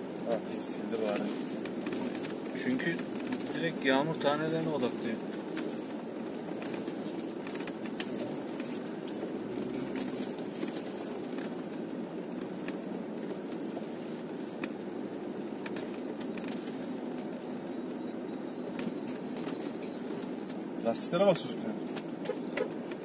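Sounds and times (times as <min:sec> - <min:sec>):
vehicle cabin running noise: 0:00.0 - 0:23.0.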